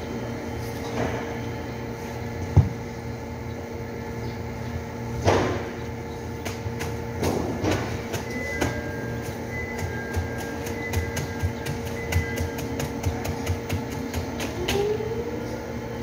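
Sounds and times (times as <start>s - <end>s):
factory machinery hum: 0.0s - 16.0s.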